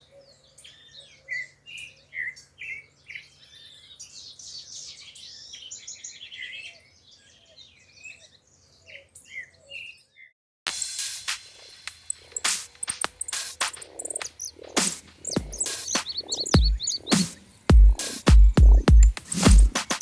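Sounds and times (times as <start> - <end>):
birds chirping and whistling: 0.0 - 20.0.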